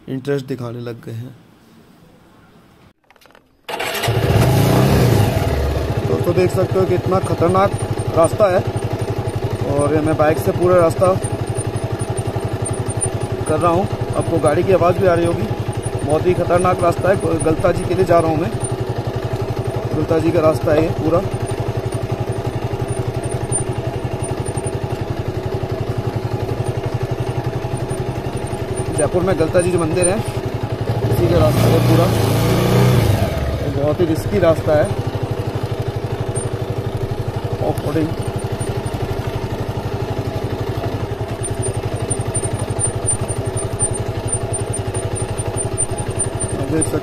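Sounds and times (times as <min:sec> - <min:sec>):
motorcycle engine running: 0:03.7 - 0:47.0.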